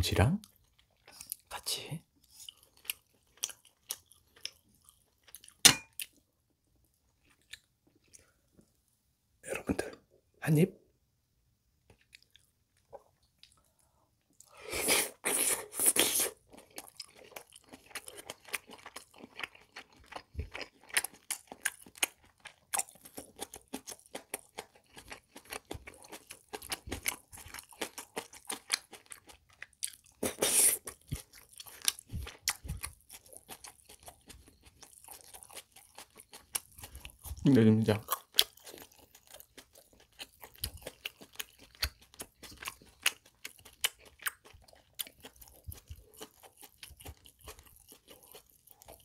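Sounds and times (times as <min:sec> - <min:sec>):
close chewing and crunching: 0:00.4 - 0:08.6, 0:11.9 - 0:49.0.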